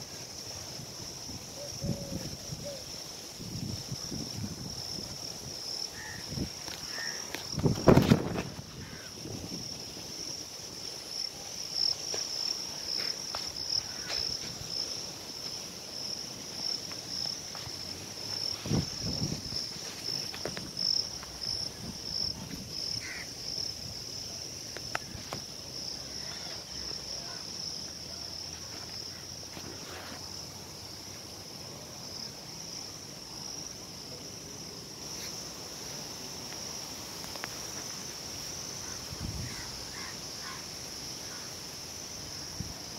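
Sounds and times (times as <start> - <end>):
insects buzzing chorus: 0.0 - 42.9.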